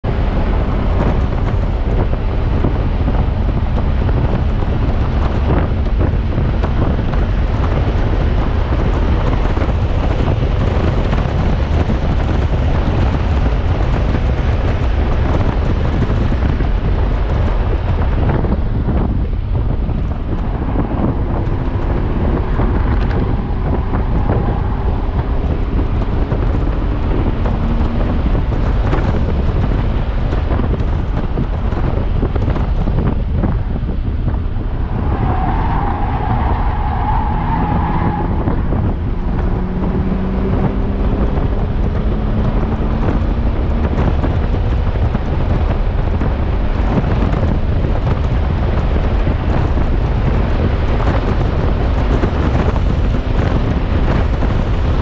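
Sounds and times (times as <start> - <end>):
car engine running: 0.0 - 55.0
wind buffeting microphone: 0.0 - 55.0.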